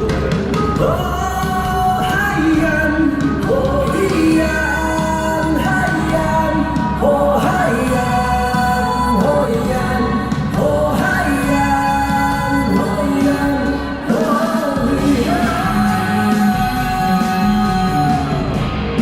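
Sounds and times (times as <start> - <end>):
pop-rock song with singing: 0.0 - 19.0.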